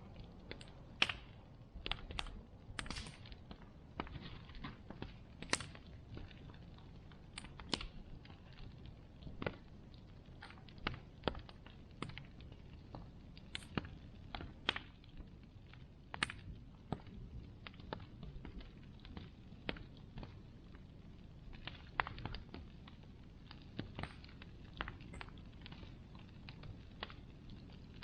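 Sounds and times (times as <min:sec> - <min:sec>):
bonfire crackling and popping: 0:00.0 - 0:28.0
low fire rumble: 0:00.0 - 0:28.0.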